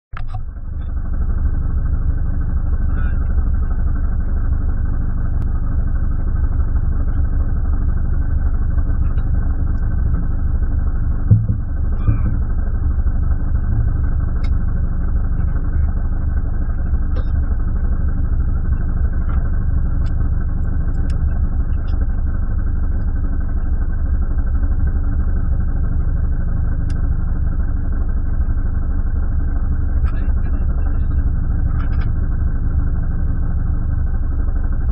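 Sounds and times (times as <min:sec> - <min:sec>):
car engine idling: 0:00.2 - 0:34.9.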